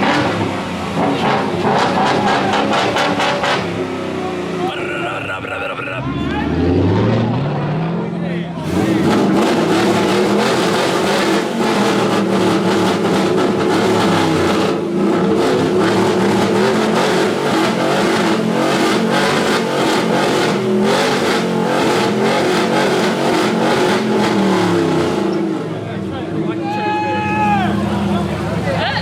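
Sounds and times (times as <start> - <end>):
car engine at high revs: 0.0 - 26.6.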